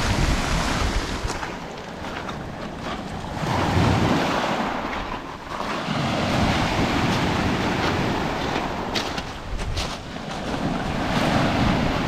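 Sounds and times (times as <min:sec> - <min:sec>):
waves washing on pebble beach: 0:00.0 - 0:12.0.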